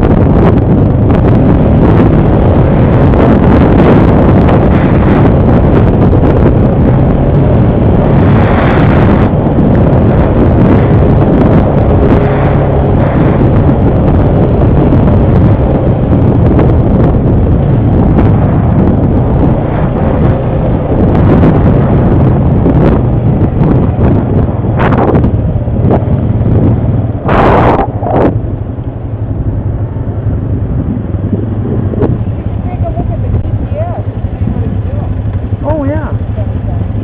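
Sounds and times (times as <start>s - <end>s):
atv engine running: 0.0s - 37.0s
wind buffeting microphone: 0.0s - 37.0s.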